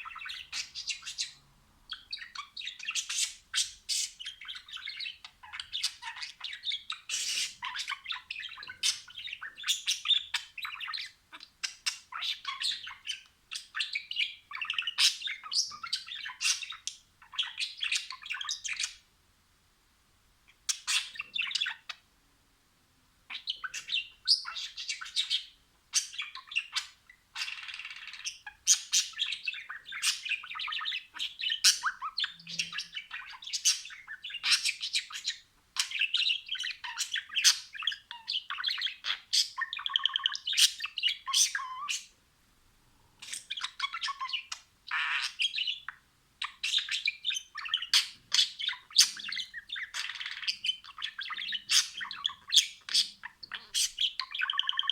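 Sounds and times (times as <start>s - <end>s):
budgerigars chirping and warbling: 0.0s - 19.1s, 20.6s - 22.0s, 23.3s - 42.2s, 43.2s - 54.9s.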